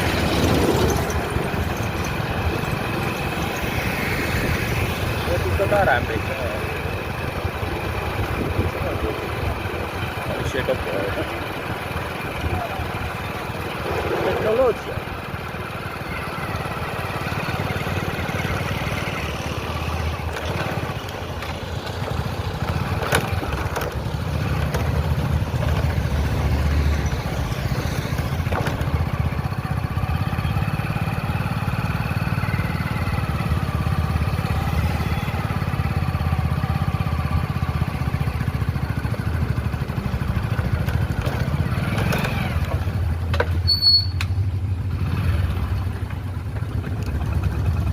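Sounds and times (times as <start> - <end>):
motorcycle engine running: 0.0 - 47.9
road noise: 0.0 - 47.9.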